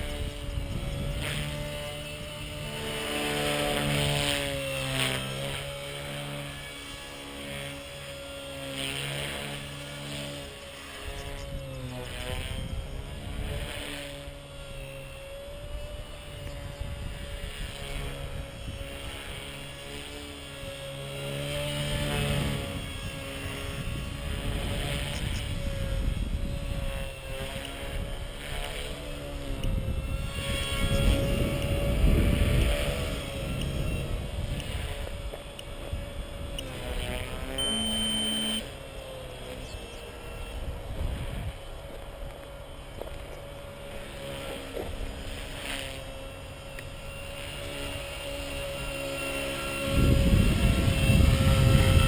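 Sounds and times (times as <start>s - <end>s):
model helicopter rotor whine: 0.0s - 52.0s.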